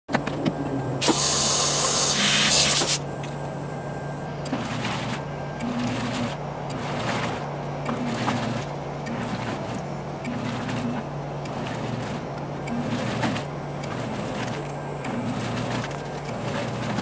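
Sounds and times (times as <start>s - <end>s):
washing machine motor hum: 0.2s - 17.0s
washing machine rushing hiss: 1.0s - 17.0s.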